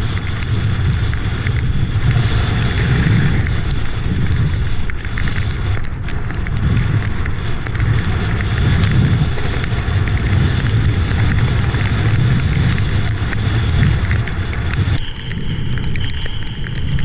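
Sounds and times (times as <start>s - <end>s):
choppy water rushing: 0.0s - 17.0s
small ticks: 0.0s - 17.0s
wind buffeting microphone: 0.0s - 17.0s.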